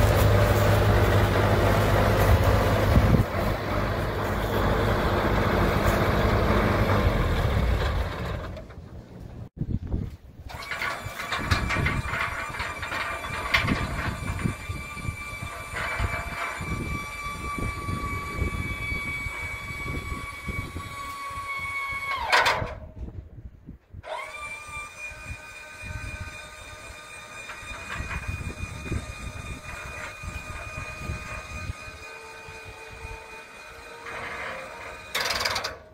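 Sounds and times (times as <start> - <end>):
wind rumble on microphone: 0.0 - 8.0, 9.3 - 33.4
sprayer engine whining: 0.0 - 9.0, 10.5 - 22.4, 24.1 - 35.9.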